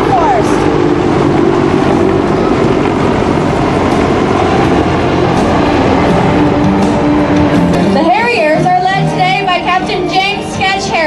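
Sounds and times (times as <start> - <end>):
military aircraft engine noise: 0.0 - 11.0.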